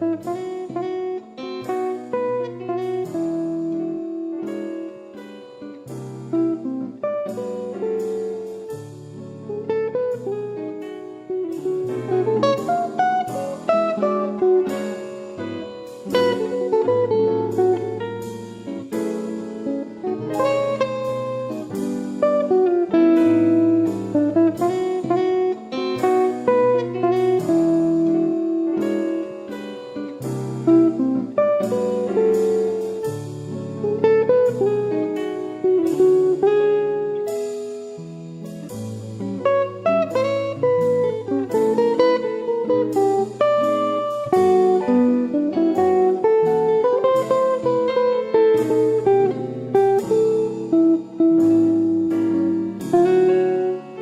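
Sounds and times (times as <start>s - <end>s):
plucked acoustic guitar music: 0.0s - 54.0s.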